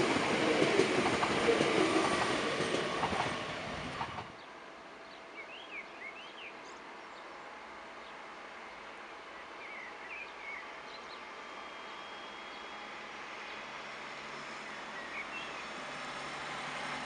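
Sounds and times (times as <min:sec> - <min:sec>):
train running past on rails: 0:00.0 - 0:17.0.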